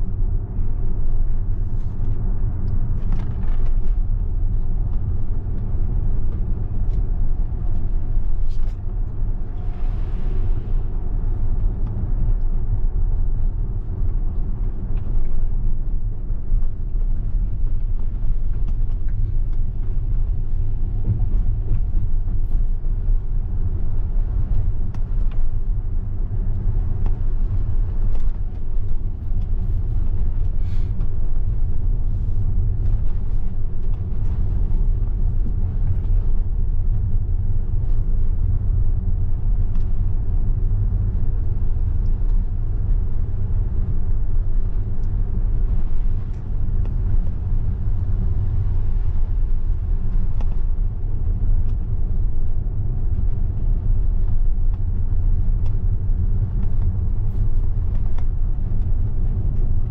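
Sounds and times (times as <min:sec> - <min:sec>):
road rumble and tyre noise: 0:00.0 - 0:59.9.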